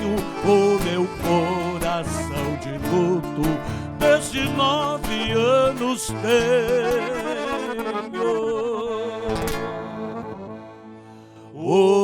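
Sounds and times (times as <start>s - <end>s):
instrumental accompaniment: 0.0s - 11.6s.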